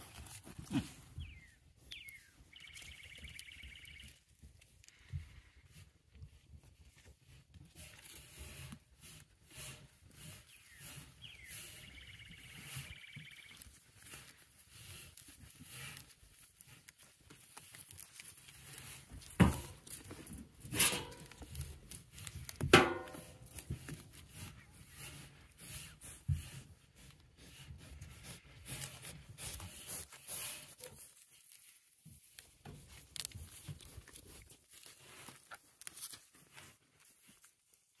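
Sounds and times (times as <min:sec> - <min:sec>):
goats rustling and scuffing: 0:00.0 - 0:38.0.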